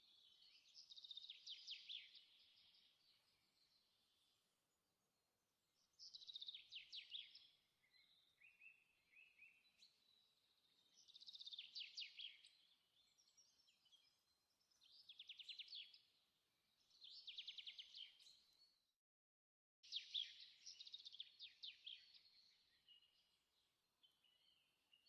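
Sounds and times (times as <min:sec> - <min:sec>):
soft bird chirps: 0:00.0 - 0:04.6, 0:05.8 - 0:18.8, 0:19.8 - 0:25.0.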